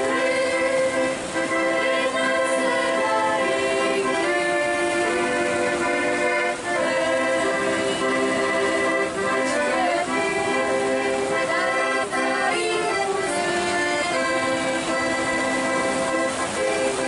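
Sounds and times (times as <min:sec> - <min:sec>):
children's choir singing folk song: 0:00.0 - 0:17.0.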